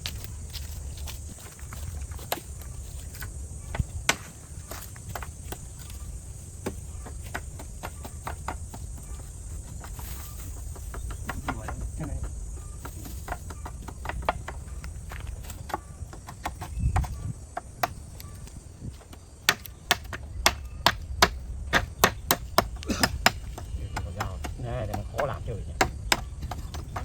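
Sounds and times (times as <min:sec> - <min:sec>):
insects droning: 0:00.0 - 0:27.0
light clicks and knocks: 0:00.0 - 0:27.0.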